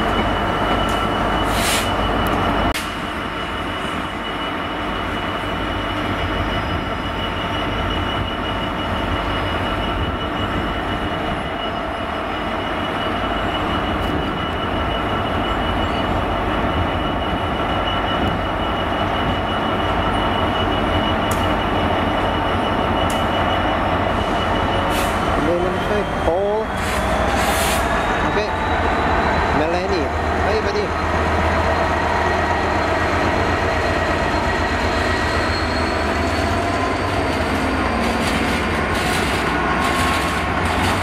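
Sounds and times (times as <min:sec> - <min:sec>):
diesel locomotive engine running: 0:00.0 - 0:41.0
high-pitched train squeal: 0:00.0 - 0:41.0.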